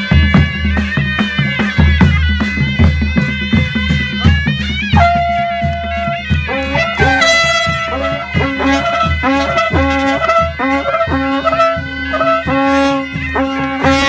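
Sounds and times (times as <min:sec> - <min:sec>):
held lead melody: 0:00.0 - 0:14.0
steady low beat: 0:00.0 - 0:14.0.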